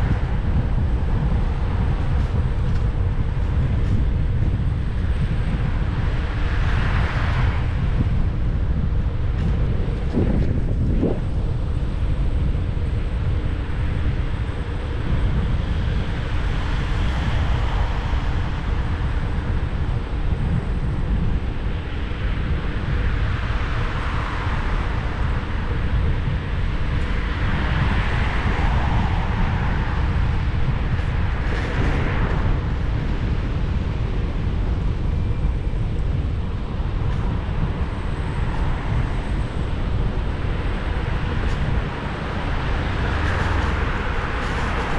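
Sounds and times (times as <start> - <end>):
passing city traffic: 0.0 - 44.9
wind rumbling on microphone: 0.0 - 44.9.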